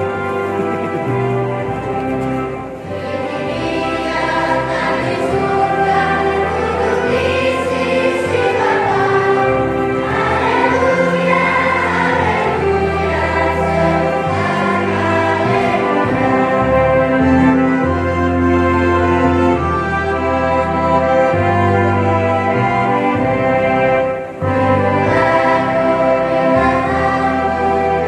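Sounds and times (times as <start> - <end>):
children's choir singing a hymn: 0.0 - 28.0
sustained instrumental accompaniment: 0.0 - 28.0.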